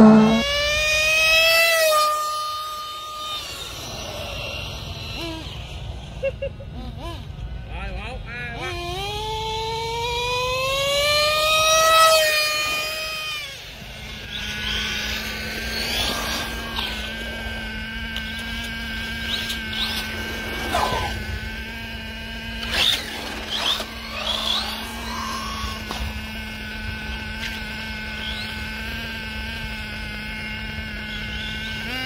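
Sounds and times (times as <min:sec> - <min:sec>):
model car engine revving: 0:00.0 - 0:32.0
rising and falling engine whines: 0:00.0 - 0:32.0.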